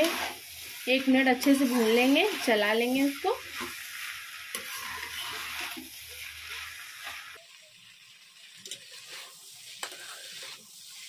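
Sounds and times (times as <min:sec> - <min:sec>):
rice sizzling in oil: 0:00.0 - 0:11.0.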